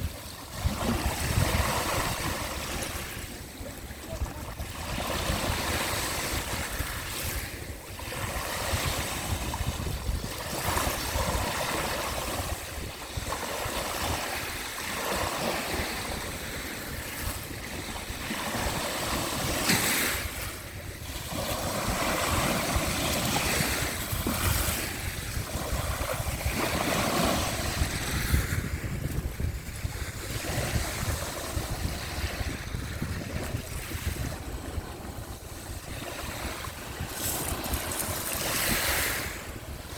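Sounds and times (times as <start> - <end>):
sea waves washing in: 0.0 - 39.9
wind rumbling on microphone: 0.0 - 39.9.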